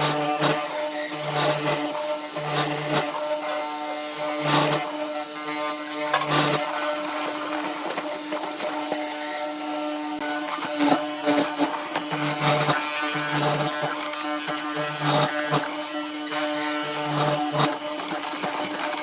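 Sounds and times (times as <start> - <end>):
power tool motor buzzing: 0.0 - 19.0.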